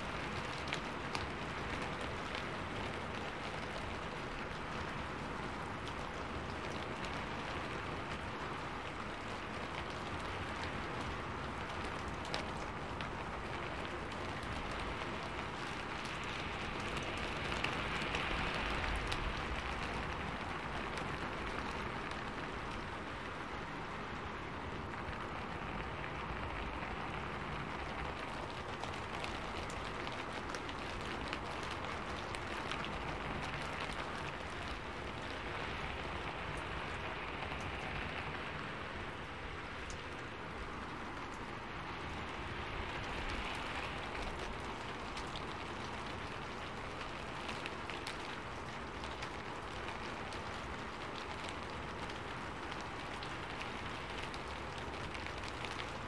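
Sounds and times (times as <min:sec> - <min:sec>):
rain pattering on leaves: 0:00.0 - 0:56.0.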